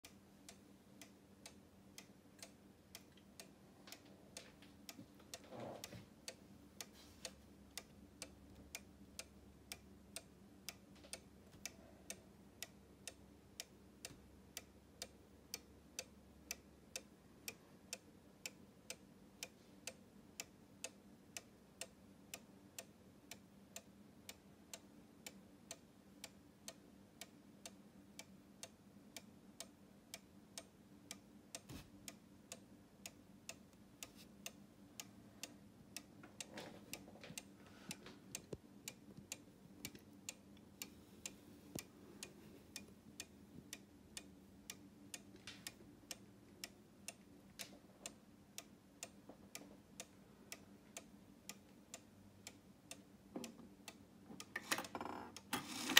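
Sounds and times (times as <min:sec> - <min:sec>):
cuckoo clock ticking: 0:00.0 - 0:55.9.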